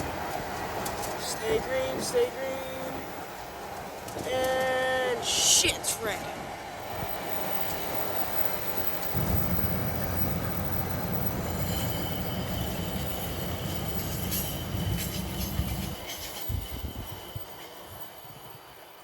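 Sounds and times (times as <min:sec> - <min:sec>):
distant train rumble: 0:00.0 - 0:19.0.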